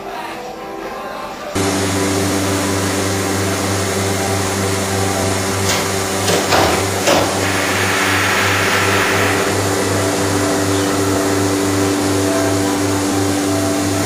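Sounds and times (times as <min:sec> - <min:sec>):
pump motor humming: 0:01.6 - 0:14.0
steady hiss: 0:01.6 - 0:14.0.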